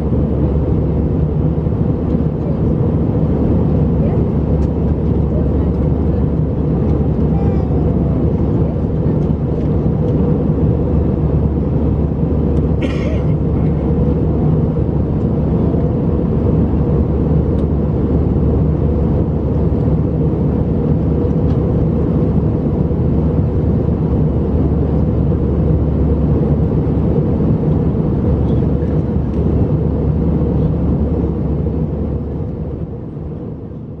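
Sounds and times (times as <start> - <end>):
aircraft cabin engine drone: 0.0 - 34.0.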